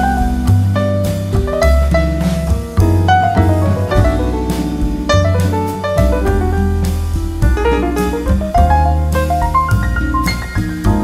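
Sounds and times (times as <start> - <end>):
instrumental jazz music: 0.0 - 11.0.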